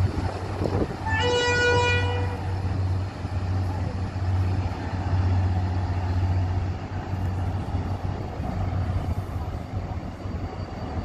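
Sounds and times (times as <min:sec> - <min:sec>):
diesel locomotive engine hum: 0:00.0 - 0:11.0.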